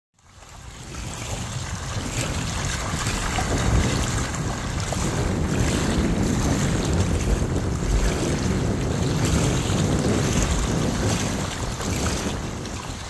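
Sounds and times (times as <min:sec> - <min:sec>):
wind buffeting microphone: 0:00.2 - 0:13.0
waves lapping on gravel shore: 0:00.3 - 0:13.0.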